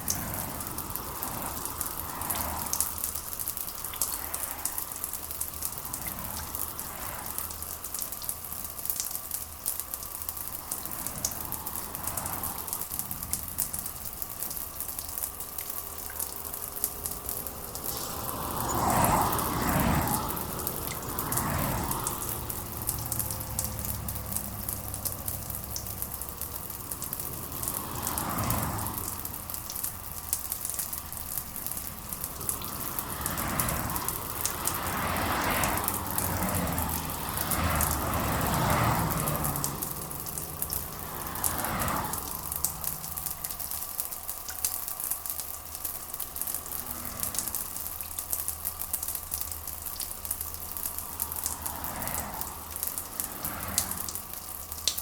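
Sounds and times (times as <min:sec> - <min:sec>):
rushing gusts of rain: 0:00.0 - 0:55.0
steady rain: 0:00.0 - 0:55.0.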